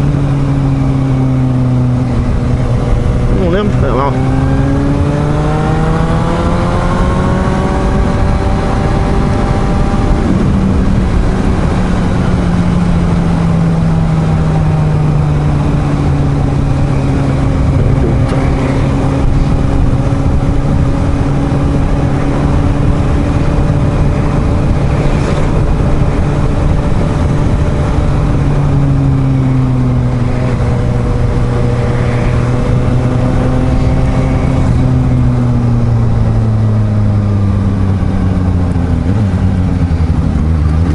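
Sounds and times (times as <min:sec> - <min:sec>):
motorcycle engine cruising: 0:00.0 - 0:40.9
wind rushing over microphone: 0:00.0 - 0:40.9.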